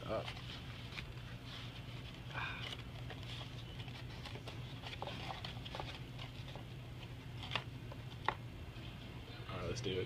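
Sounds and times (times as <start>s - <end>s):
paper wrapper rustling: 0.0s - 8.3s
steady low hum: 0.0s - 10.0s.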